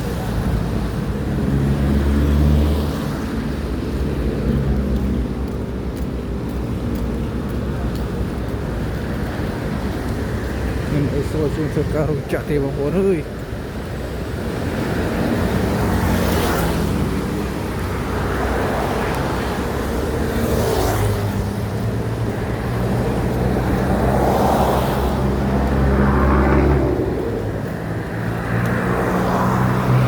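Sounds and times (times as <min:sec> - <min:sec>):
traffic engine hum: 0:00.0 - 0:30.0
vehicles passing by: 0:00.0 - 0:30.0.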